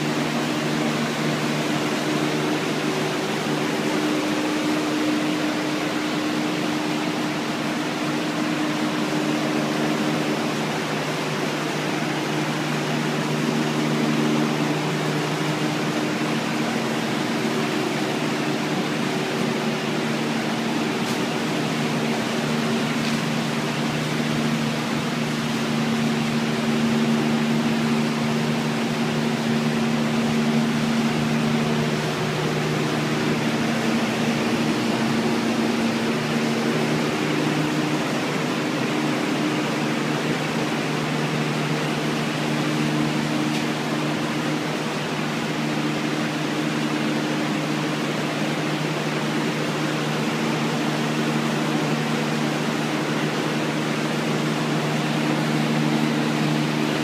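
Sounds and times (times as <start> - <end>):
low machinery hum: 0.0 - 57.0
machinery airy rush: 0.0 - 57.0.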